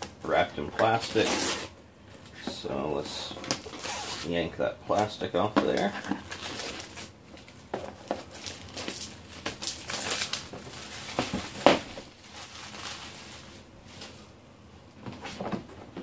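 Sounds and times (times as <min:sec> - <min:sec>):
plastic shrink wrap crinkling: 0:00.0 - 0:14.3.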